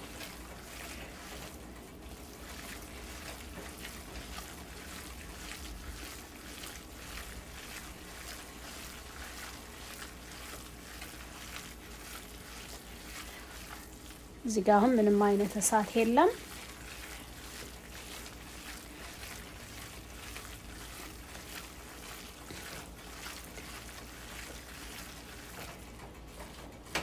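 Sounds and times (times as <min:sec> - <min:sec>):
wet squishing of minced meat: 0:00.0 - 0:27.0.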